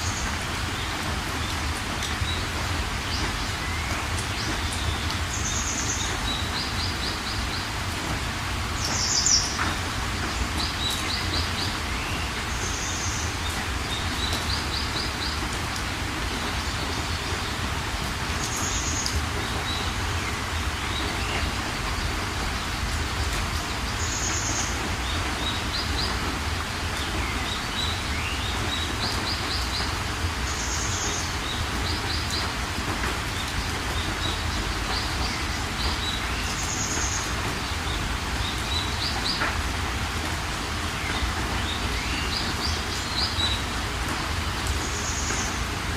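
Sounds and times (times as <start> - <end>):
songbirds calling: 0.0 - 45.9
steady rain hiss: 0.0 - 45.9.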